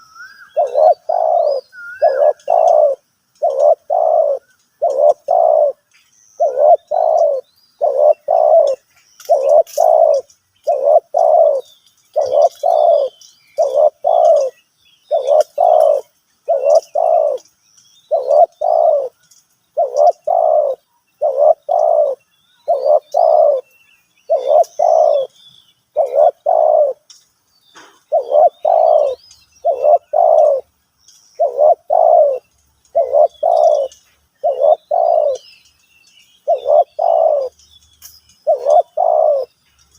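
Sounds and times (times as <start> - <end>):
dove cooing: 0.0 - 17.5, 18.1 - 19.2, 19.8 - 27.1, 27.8 - 30.8, 31.4 - 35.6, 36.4 - 37.6, 38.4 - 39.6
small birds chirping: 0.0 - 39.9.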